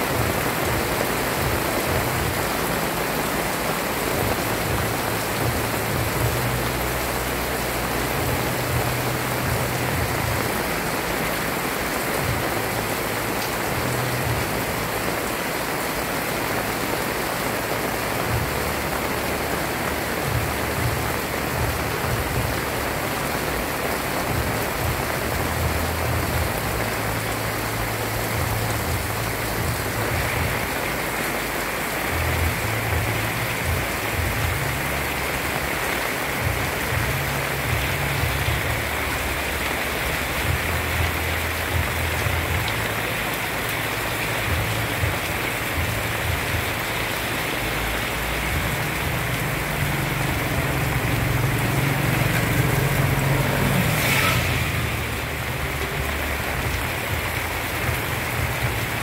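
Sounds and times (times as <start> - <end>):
heavy rain on pavement and roofs: 0.0 - 59.0.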